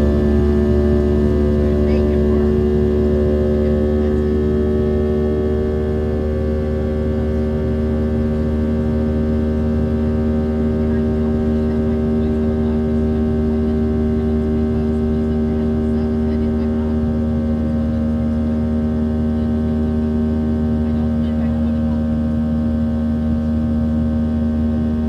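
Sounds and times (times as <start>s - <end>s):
airplane cabin drone: 0.0s - 25.0s
steady humming tones: 0.0s - 25.0s.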